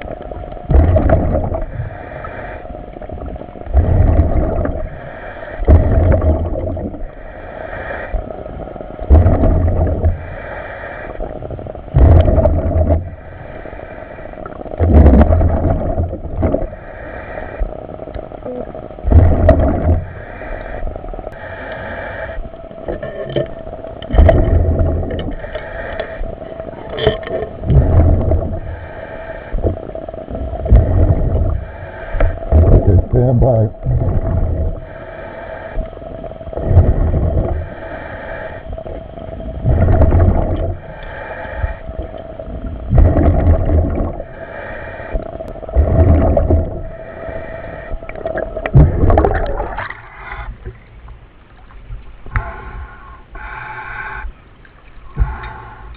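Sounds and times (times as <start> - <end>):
bubbling exhaust rumble: 0.0 - 2.3, 3.0 - 7.4, 8.1 - 10.5, 11.2 - 13.6, 14.4 - 21.5, 22.4 - 35.0, 36.1 - 53.0
steady hum: 0.0 - 55.9
diver breathing through regulator: 1.2 - 18.1, 19.1 - 23.4, 24.2 - 50.8, 52.3 - 54.4, 55.1 - 55.9.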